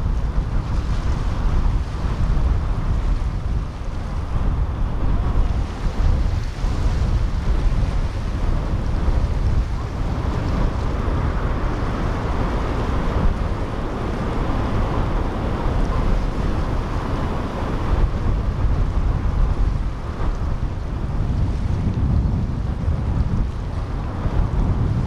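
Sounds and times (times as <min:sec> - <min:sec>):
waves rushing: 0:00.0 - 0:21.9
powerboat engines and wake: 0:00.0 - 0:25.0
wind rumbling on microphone: 0:00.0 - 0:25.0.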